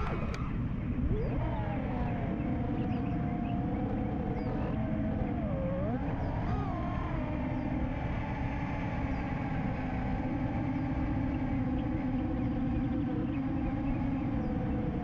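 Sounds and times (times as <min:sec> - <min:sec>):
drone motors whining: 0:00.0 - 0:15.0
prop-wash and wind rumble: 0:00.0 - 0:15.0.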